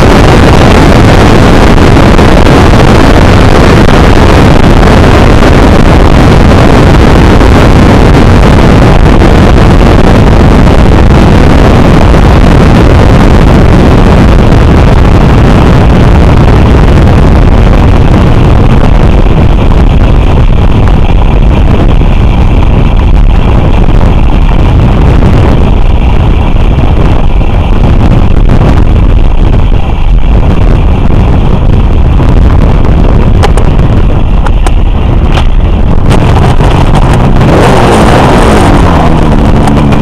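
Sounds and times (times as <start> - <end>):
motorcycle engine at high speed: 0.0 - 40.0
wind buffeting on microphone: 0.0 - 40.0.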